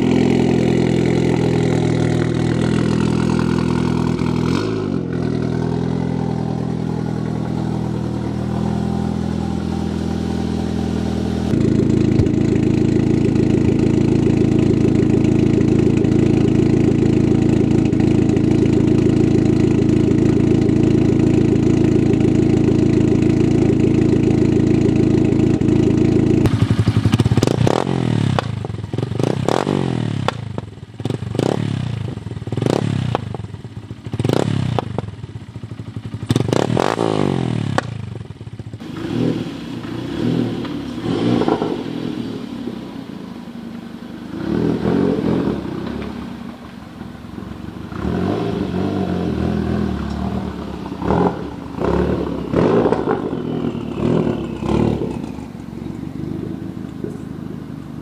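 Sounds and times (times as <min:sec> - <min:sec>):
car engine idling: 0:00.0 - 0:31.0, 0:37.6 - 0:58.0
engine revving: 0:00.0 - 0:33.4, 0:34.1 - 0:35.0, 0:36.2 - 0:38.1, 0:38.8 - 0:58.0.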